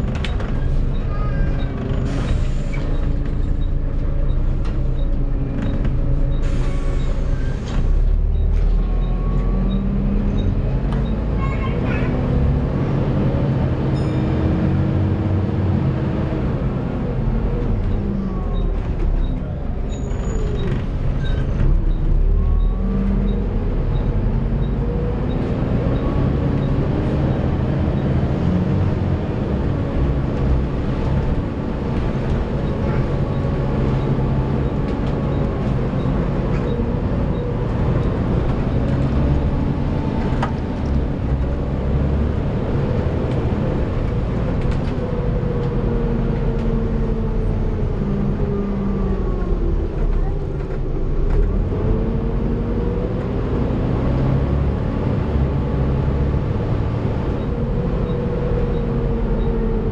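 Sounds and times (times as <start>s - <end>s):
bus diesel engine whining: 0.0s - 59.9s.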